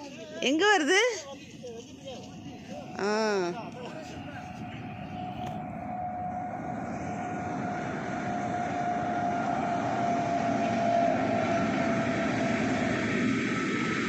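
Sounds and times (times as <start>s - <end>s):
train rumble: 0.0s - 14.0s
train whine: 0.0s - 14.0s.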